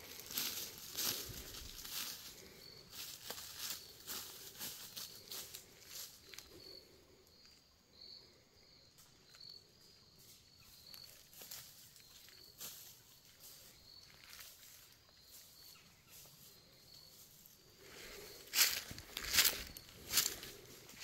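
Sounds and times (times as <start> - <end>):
footsteps crunching dry leaves: 0.0 - 6.7, 10.6 - 21.0
insect chirping: 0.0 - 21.0.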